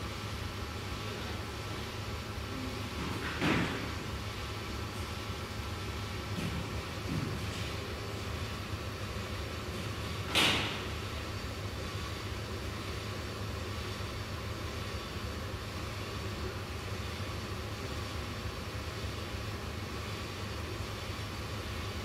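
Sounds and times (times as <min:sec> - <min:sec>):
workshop low hum: 0:00.0 - 0:22.0.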